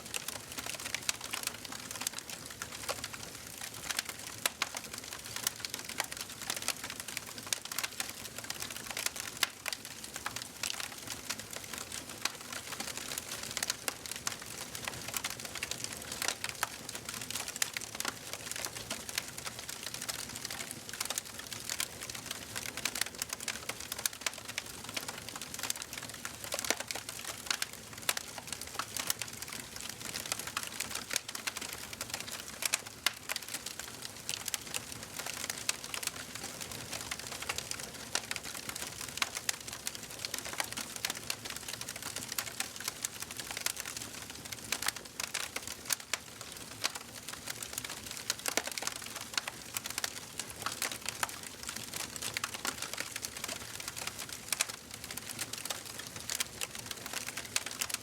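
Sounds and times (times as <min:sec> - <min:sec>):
wood fire crackling and popping: 0:00.1 - 0:58.0.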